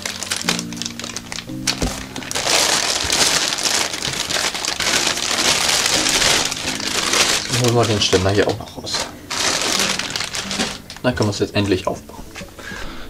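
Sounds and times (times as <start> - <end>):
packaging rustling and crinkling: 0.0 - 12.5.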